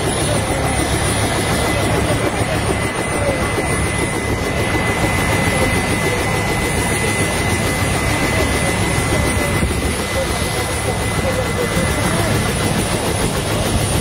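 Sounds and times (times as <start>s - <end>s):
helicopter rotor and engine: 0.0s - 14.0s
high turbine whine: 0.0s - 14.0s.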